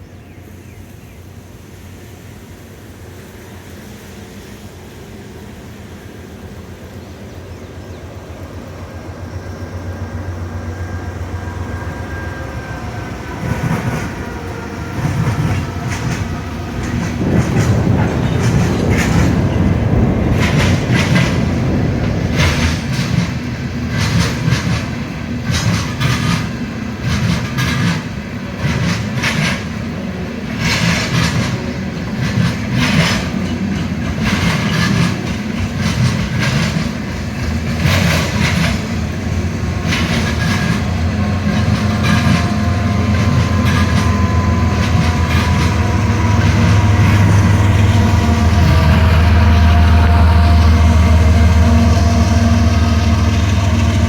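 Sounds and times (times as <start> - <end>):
locomotive engine hum: 0.0 - 54.0
train cars rumbling: 0.0 - 54.0
wheels clacking over rail joints: 7.0 - 54.0.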